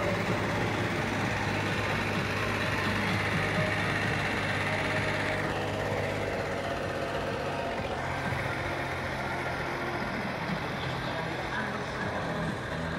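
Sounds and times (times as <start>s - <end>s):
tractor engine running at low revs: 0.0s - 12.9s.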